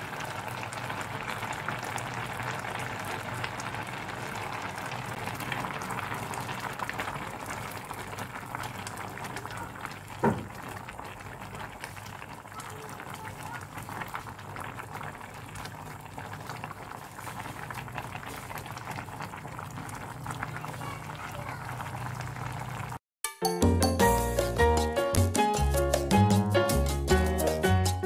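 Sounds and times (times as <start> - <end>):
pot boiling and bubbling: 0.0 - 23.0.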